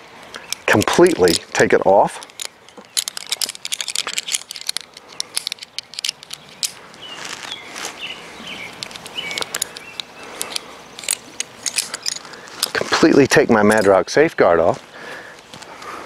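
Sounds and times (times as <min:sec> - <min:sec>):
carabiner metal clicks and rattles: 0:00.2 - 0:07.5, 0:08.6 - 0:14.4.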